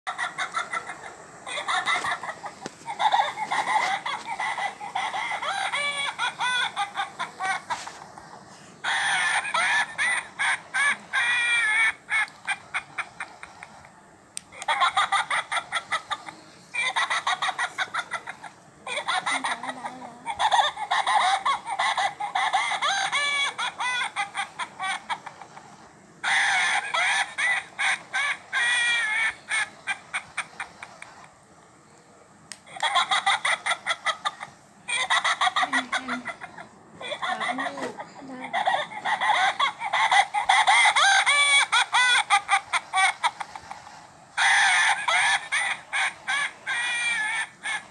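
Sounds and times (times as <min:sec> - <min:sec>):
toy electronic chatter: 0:00.1 - 0:13.8, 0:14.4 - 0:25.6, 0:26.2 - 0:31.1, 0:32.6 - 0:47.9.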